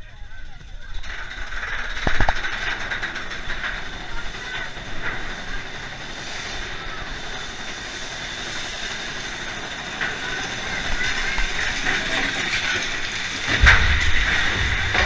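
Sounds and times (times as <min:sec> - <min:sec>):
roller coaster rattling on track: 0:00.0 - 0:15.0.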